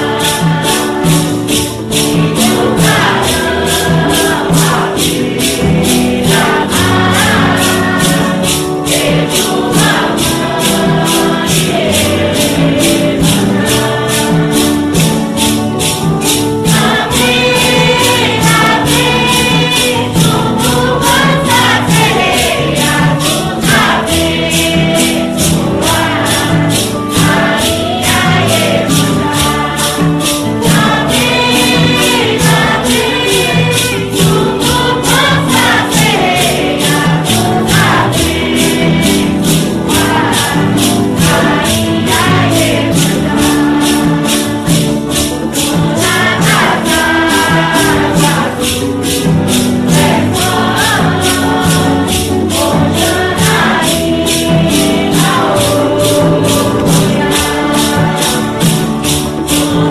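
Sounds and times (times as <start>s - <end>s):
group of voices singing: 0.0s - 59.9s
percussion beat: 0.0s - 59.9s.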